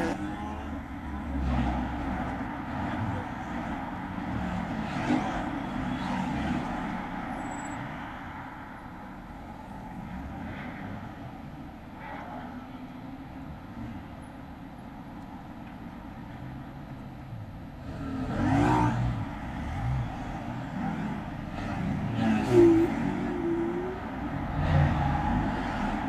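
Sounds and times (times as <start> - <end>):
traffic rumble: 0.0 - 26.0
vehicles passing close by: 0.0 - 26.0.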